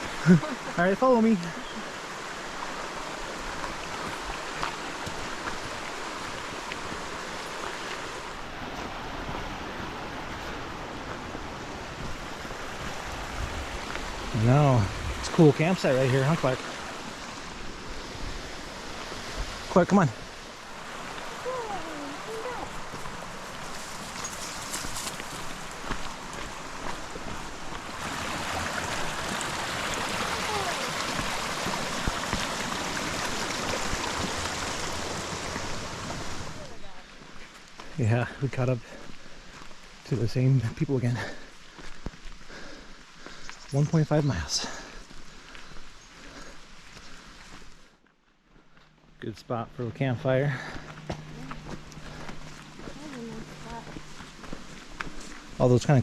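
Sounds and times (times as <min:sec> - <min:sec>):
creek water rushing: 0:00.0 - 0:47.9, 0:49.1 - 0:56.0.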